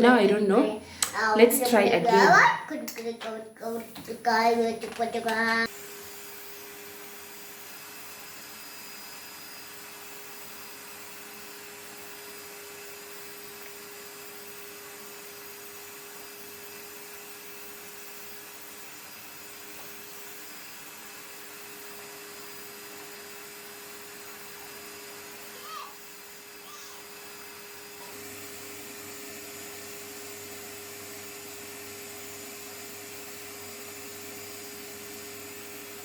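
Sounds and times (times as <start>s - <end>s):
vacuum cleaner running: 5.3s - 36.0s.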